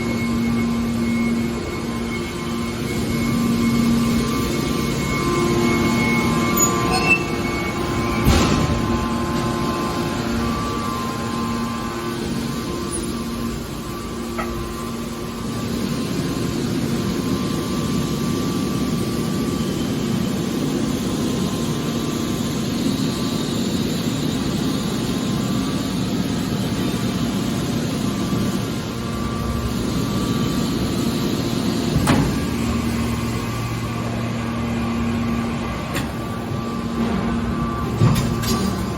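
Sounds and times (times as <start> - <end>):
metal baler machine hum: 0.0 - 38.9.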